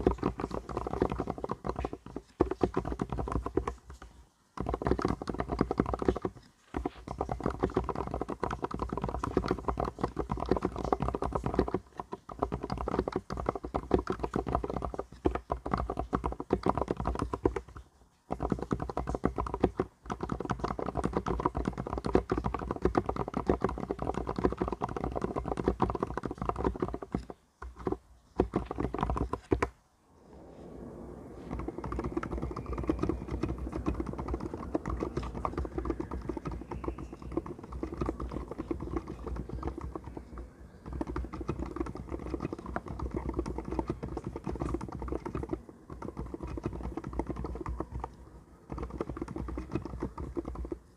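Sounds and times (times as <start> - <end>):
mechanical keyboard typing: 0.0 - 29.8, 31.4 - 50.9.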